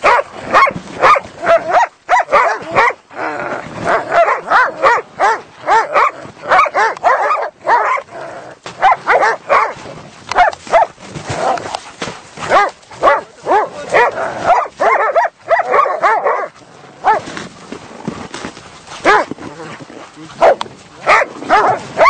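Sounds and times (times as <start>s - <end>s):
hunting dogs barking: 0.0s - 3.1s, 3.8s - 11.8s, 12.4s - 17.3s, 19.0s - 22.0s.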